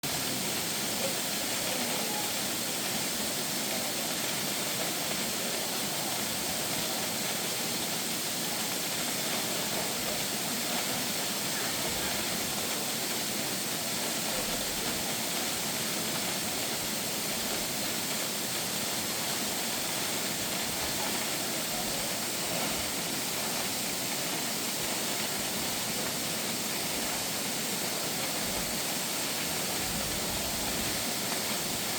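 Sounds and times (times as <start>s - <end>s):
steady hiss: 0.0s - 31.9s.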